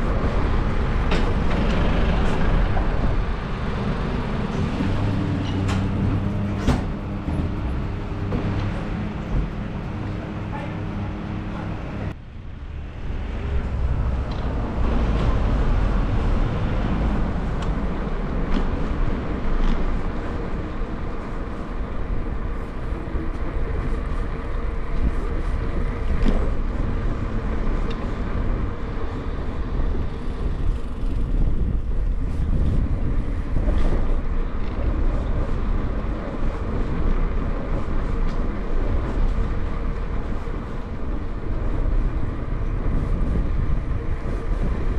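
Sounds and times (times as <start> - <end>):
wind rumble on microphone: 0.0 - 44.9.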